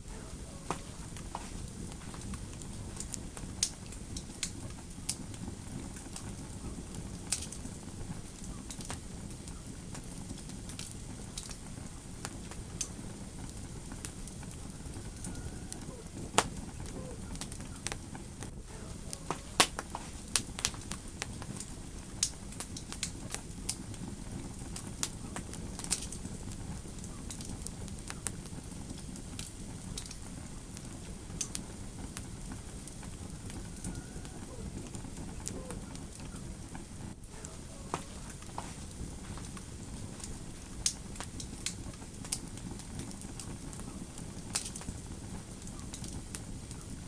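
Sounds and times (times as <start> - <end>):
fire crackling and popping: 0.0 - 47.0
low rumble of flames: 0.0 - 47.0.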